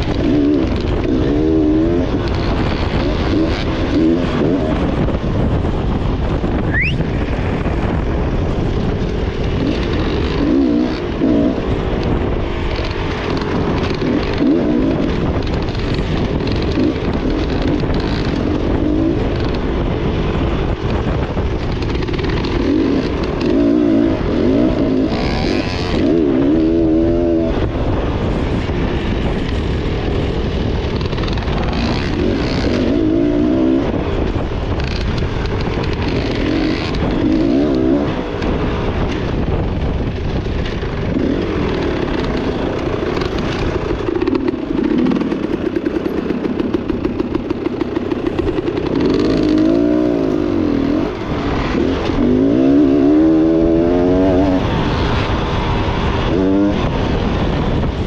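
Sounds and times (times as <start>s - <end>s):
dirt bike engine revving: 0.0s - 20.9s, 21.6s - 39.6s, 40.2s - 58.0s
steady rushing noise: 0.0s - 58.0s.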